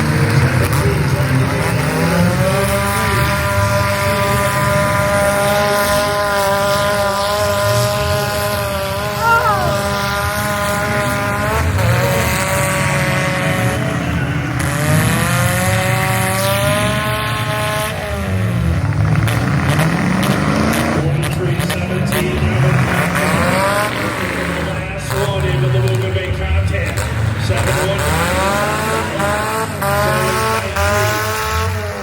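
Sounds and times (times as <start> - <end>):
car engines revving hard: 0.0 - 32.0.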